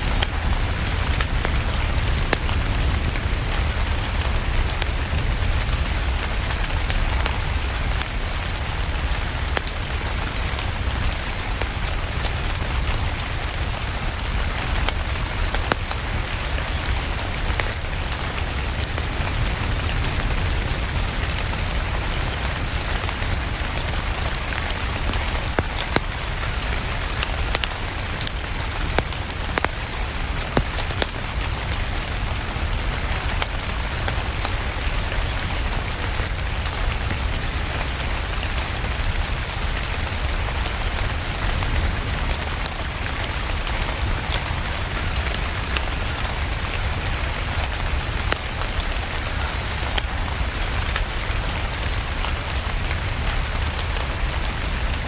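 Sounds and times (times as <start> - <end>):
steady rain: 0.0 - 55.0
wood fire crackling: 0.0 - 55.0.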